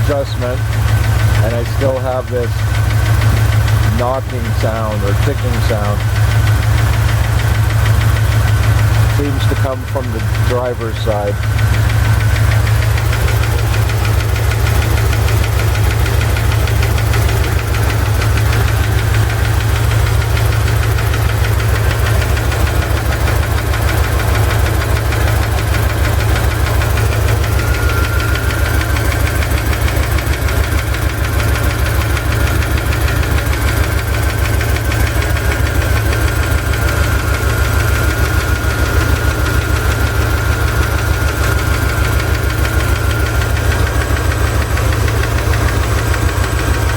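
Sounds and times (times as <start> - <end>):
car engine running: 0.0 - 46.9
engine knocking tick: 0.0 - 46.9.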